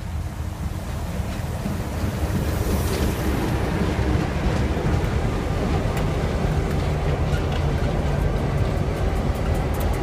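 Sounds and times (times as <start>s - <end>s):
freight locomotives rumbling past: 0.0s - 10.0s.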